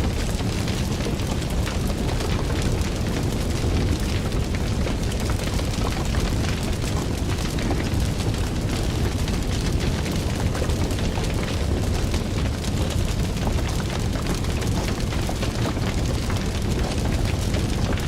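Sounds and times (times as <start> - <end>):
fire crackling and popping: 0.0 - 18.0
fire roaring: 0.0 - 18.0.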